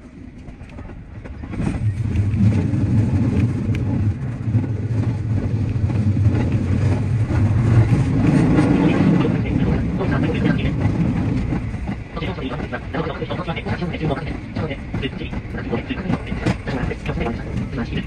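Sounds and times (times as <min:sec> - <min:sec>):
electric train running: 0:00.0 - 0:18.0.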